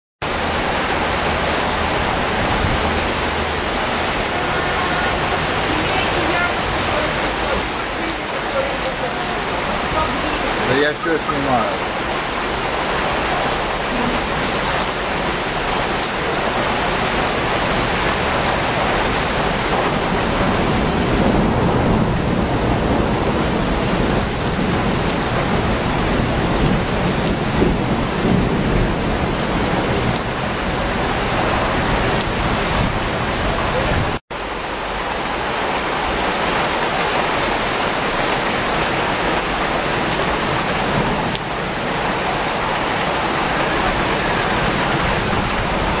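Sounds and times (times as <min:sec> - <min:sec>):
floodwater rushing: 0:00.2 - 0:46.0
heavy rain: 0:00.2 - 0:46.0.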